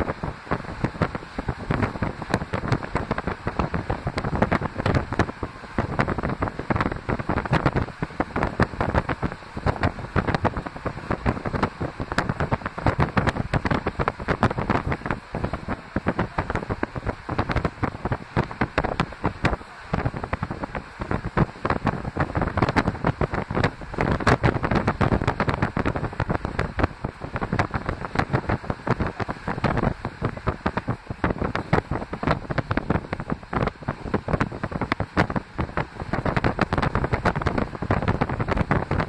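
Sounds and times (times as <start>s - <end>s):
moving train running noise: 0.0s - 39.0s
wind buffeting microphone: 0.0s - 39.0s.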